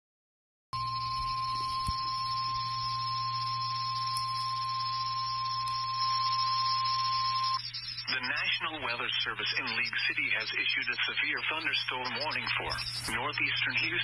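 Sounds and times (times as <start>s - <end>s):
low hum and hiss: 0.8s - 14.0s
steady warning beep: 0.8s - 14.0s.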